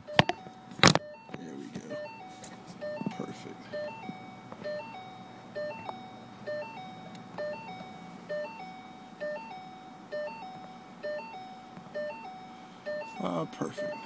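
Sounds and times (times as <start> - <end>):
two-note electronic chime: 0.0 - 14.0.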